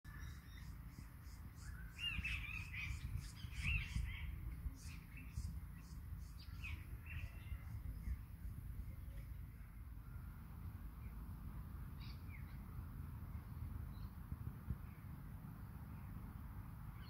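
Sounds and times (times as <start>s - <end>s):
birds chirping and warbling: 0.1s - 16.2s
low steady rumble: 0.1s - 17.0s.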